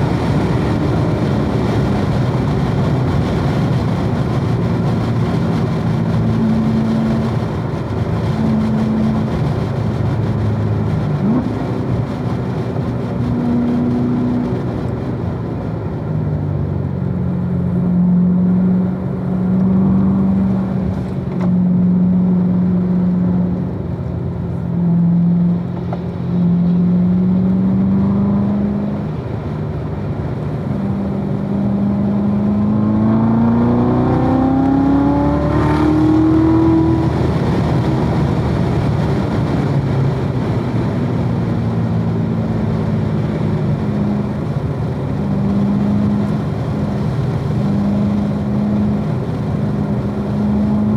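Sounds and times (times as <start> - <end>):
road and wind noise: 0.0 - 50.9
sports car engine accelerating: 0.0 - 50.9.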